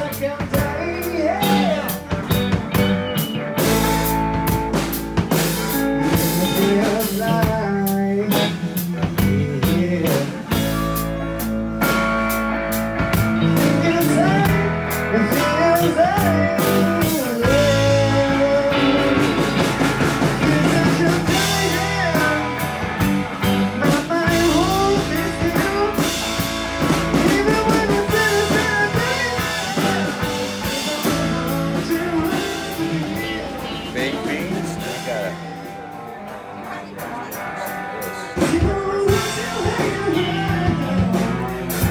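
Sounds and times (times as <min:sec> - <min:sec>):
rock and roll music: 0:00.0 - 0:41.9.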